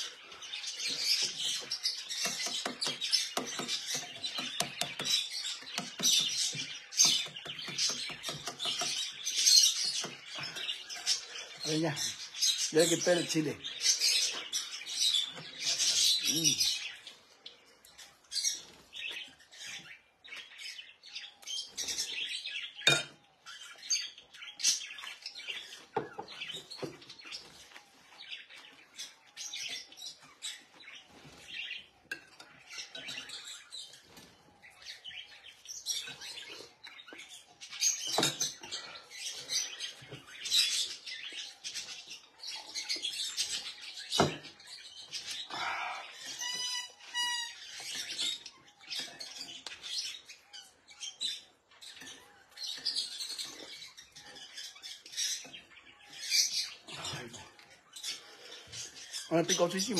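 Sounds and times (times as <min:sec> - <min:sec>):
caged birds chirping: 0:00.0 - 0:59.9.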